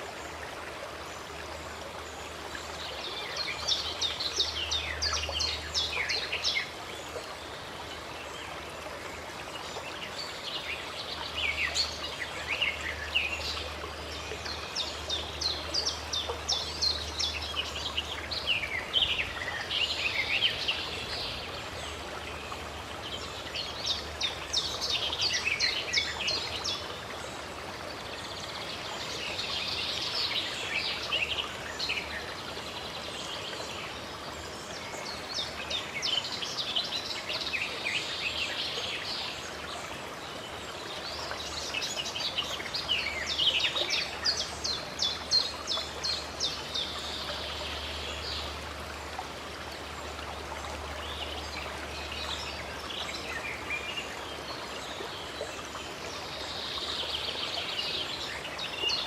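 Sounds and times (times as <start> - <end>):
running water rushing: 0.0 - 59.0
songbirds chirping: 0.0 - 59.0.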